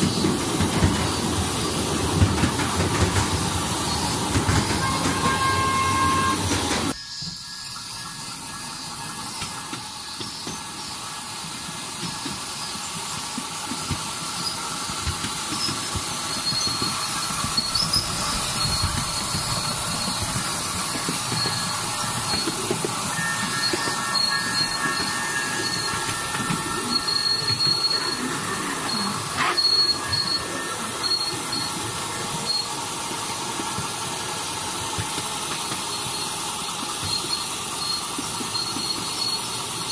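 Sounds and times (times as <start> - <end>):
train wheels clicking over rails: 0.0 - 7.5, 8.1 - 39.9
high wheel squeals: 0.0 - 11.3, 13.8 - 34.6, 35.6 - 39.9.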